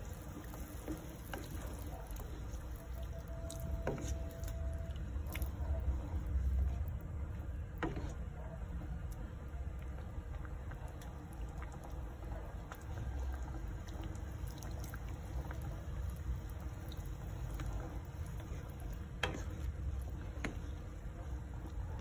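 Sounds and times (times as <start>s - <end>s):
sauce bubbling in a pot: 0.0s - 22.0s.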